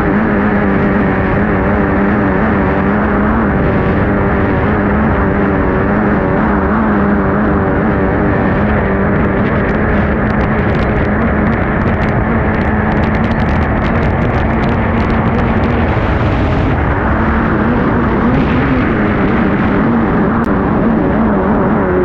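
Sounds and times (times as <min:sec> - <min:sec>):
boat engine running flat out: 0:00.0 - 0:22.0
rush of wind and water: 0:00.0 - 0:22.0.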